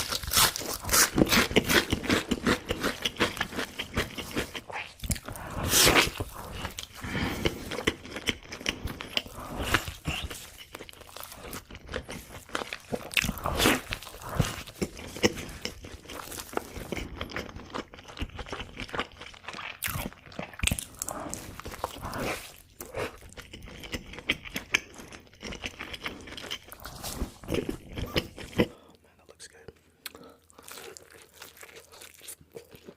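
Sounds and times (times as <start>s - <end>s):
crunchy chewing: 0.0s - 28.8s, 30.1s - 32.9s.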